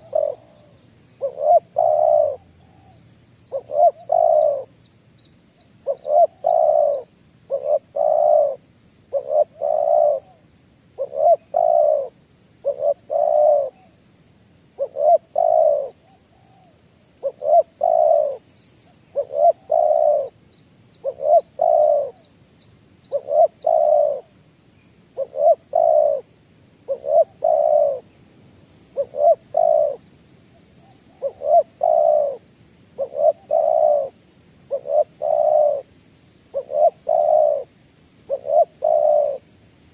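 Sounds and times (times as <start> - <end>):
dove cooing: 0.0 - 4.8, 5.8 - 10.4, 11.0 - 14.0, 14.7 - 18.5, 19.1 - 20.4, 21.0 - 22.3, 23.0 - 24.4, 25.1 - 28.1, 28.8 - 30.1, 30.8 - 35.9, 36.5 - 39.5
small birds chirping: 0.0 - 14.0, 14.8 - 26.3, 26.9 - 32.4, 33.0 - 39.4.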